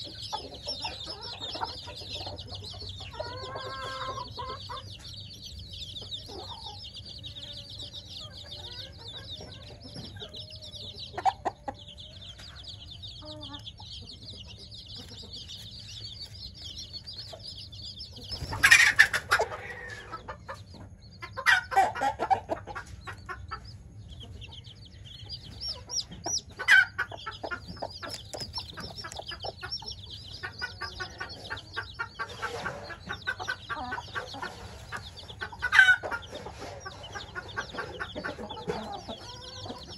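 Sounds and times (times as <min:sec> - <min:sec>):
chicks peeping: 0:00.0 - 0:39.9
louder fuller chick calls: 0:00.0 - 0:39.9.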